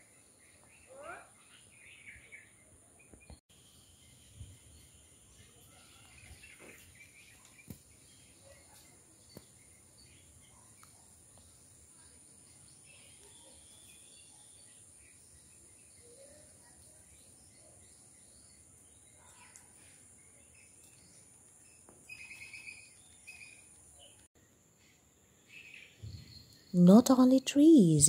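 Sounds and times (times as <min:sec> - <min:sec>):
faint bird chirps: 0:00.0 - 0:28.0.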